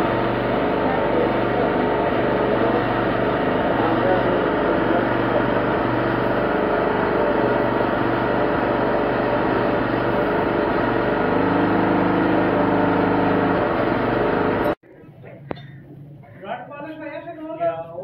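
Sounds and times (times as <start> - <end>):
machine running with low hum: 0.0 - 14.8.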